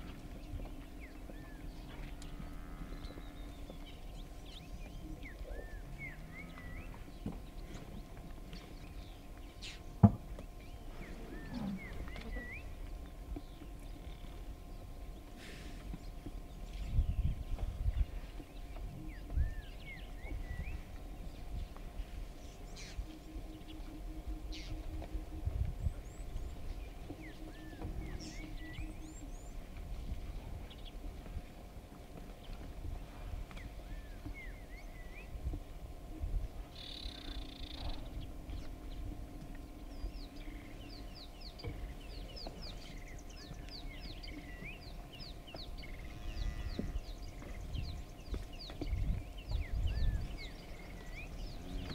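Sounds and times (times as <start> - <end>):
birds chirping: 0.0 - 51.9
hooves thudding: 0.0 - 51.9
low outdoor rumble: 0.0 - 51.9.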